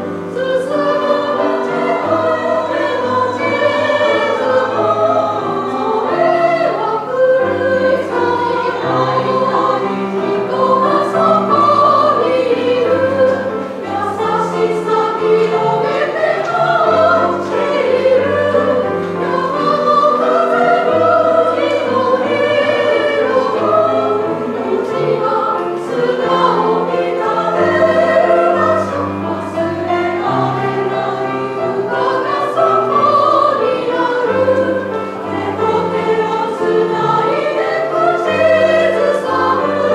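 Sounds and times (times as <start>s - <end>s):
piano playing low notes: 0.0s - 39.9s
women's choir singing: 0.0s - 39.9s.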